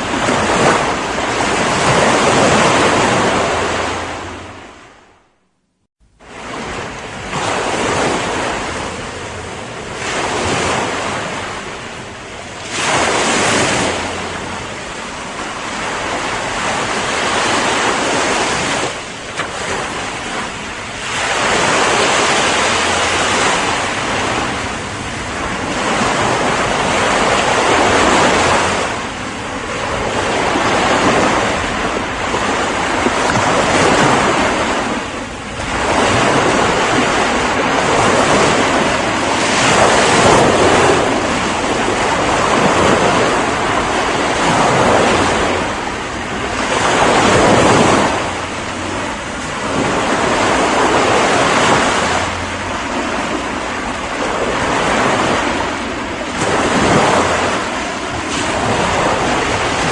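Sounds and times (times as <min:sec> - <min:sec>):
ocean waves breaking: 0:00.0 - 0:05.4, 0:06.0 - 0:59.9.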